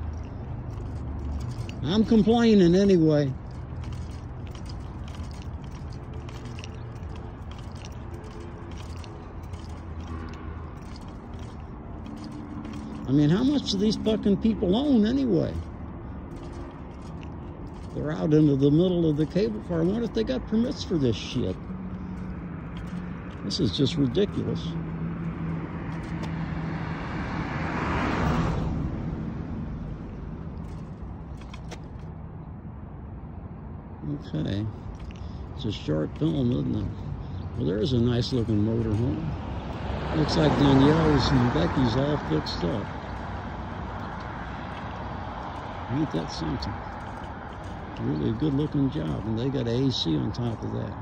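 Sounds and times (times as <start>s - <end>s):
clicking and rattling on pavement: 0.0s - 51.0s
vehicle passing by: 0.0s - 51.0s.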